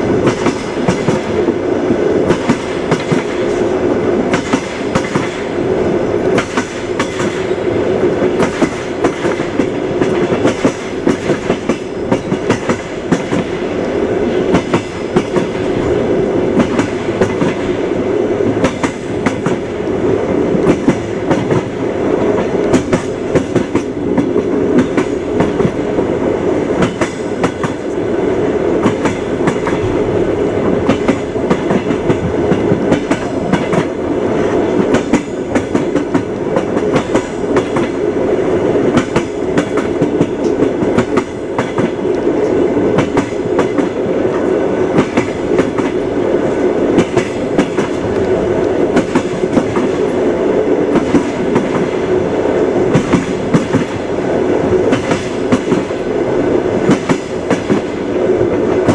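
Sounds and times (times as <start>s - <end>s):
train wheels clattering over rail joints: 0.1s - 5.6s, 6.3s - 19.8s, 20.5s - 28.0s, 28.8s - 30.1s, 30.8s - 38.0s, 38.8s - 50.2s, 50.8s - 52.1s, 52.8s - 56.0s, 56.8s - 58.9s.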